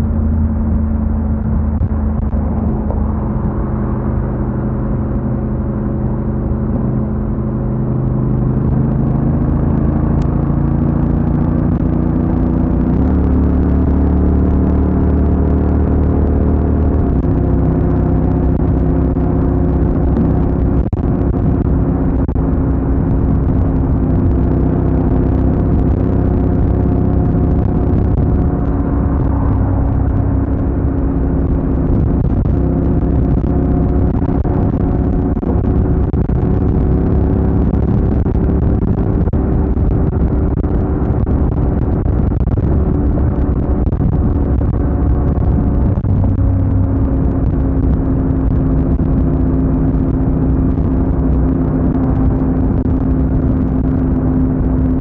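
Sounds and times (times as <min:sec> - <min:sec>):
low rumble of road noise: 0:00.0 - 0:55.0
motorcycle engine running: 0:00.0 - 0:55.0.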